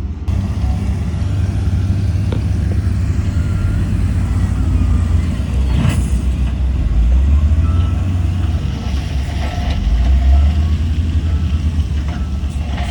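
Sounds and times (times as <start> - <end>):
heavy diesel engine rumbling: 0.0 - 12.9.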